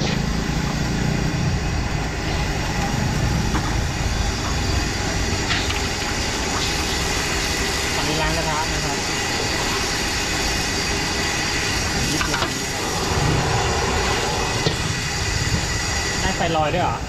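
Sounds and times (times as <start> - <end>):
gas burner roaring: 0.0 - 17.0.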